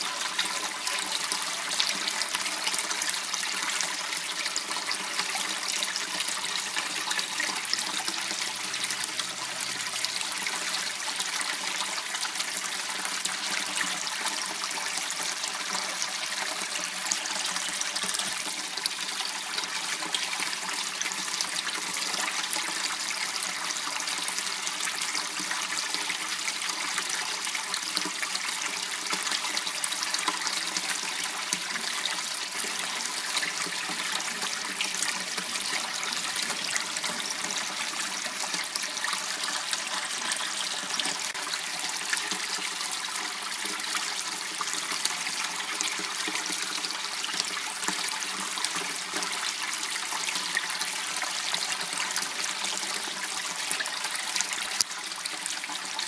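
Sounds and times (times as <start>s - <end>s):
water trickling in channel: 0.0s - 56.0s.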